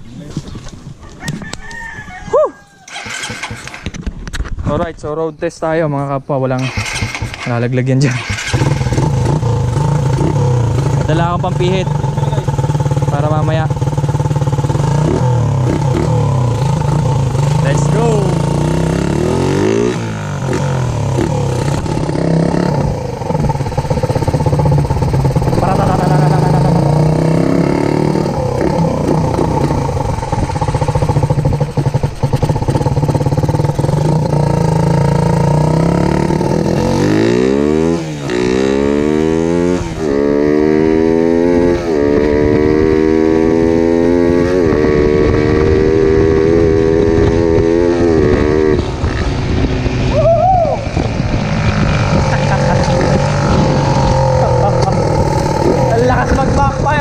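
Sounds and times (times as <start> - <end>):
motorcycle engine revving: 2.3 - 4.7, 6.5 - 57.0.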